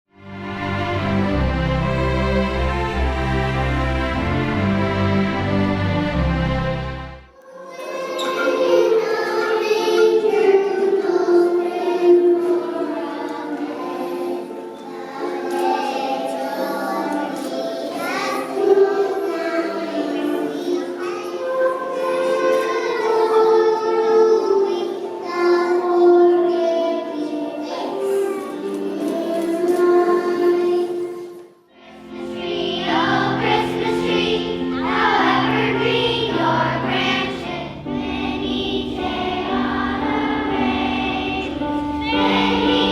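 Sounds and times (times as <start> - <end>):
children's choir singing: 0.2 - 42.9.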